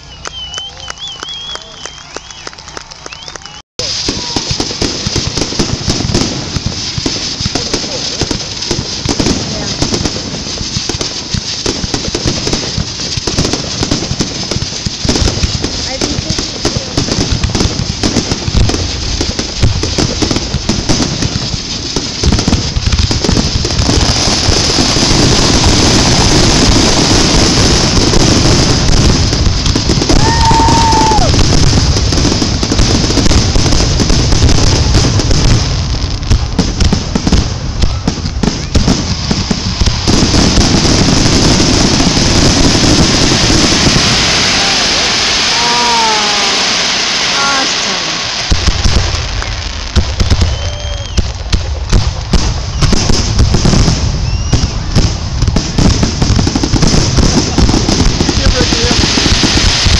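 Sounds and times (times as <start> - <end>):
fireworks booms and crackling: 0.0 - 59.9.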